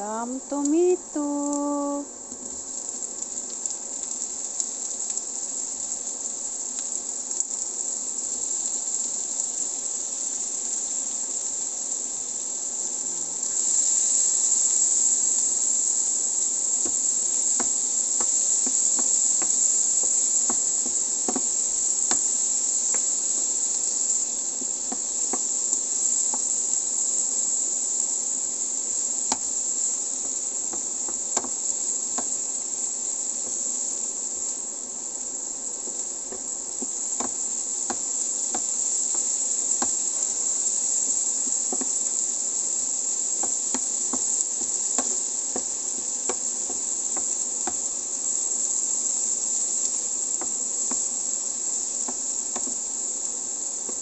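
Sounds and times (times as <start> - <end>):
vegetables sizzling in frying pan: 0.0 - 54.0.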